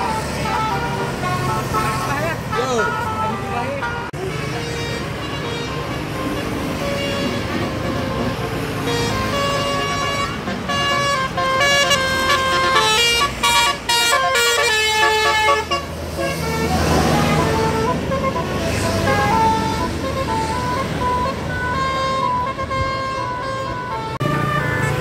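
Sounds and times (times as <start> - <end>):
engine and road noise: 0.0 - 25.0
musical air horn tune: 0.0 - 25.0.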